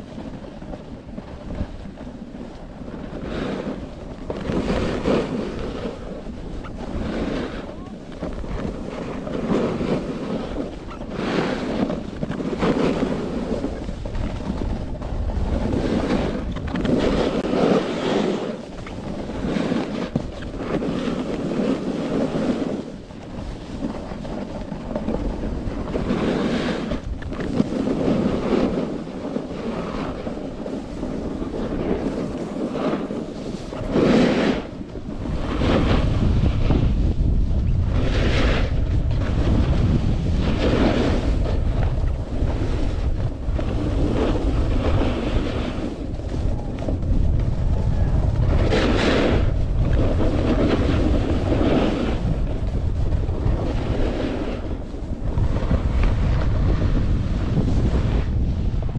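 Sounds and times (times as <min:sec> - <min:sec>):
skis scraping over snow: 0:00.0 - 0:58.9
wind on microphone: 0:00.0 - 0:58.9.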